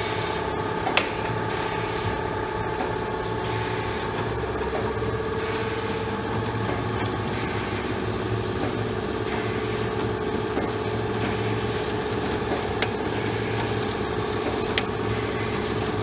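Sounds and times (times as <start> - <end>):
machine humming: 0.0 - 16.0
fast even mechanical ticking: 2.3 - 16.0.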